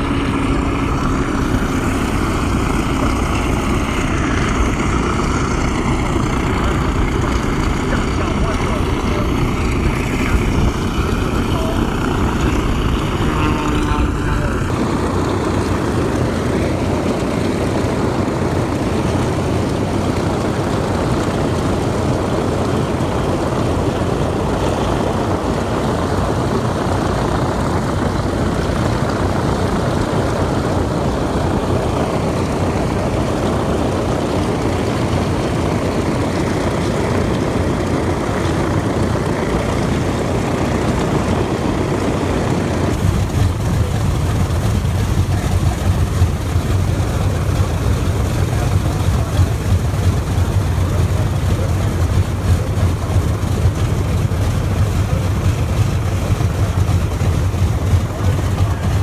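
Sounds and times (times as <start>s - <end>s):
propeller aircraft engines taxiing: 0.0s - 59.0s.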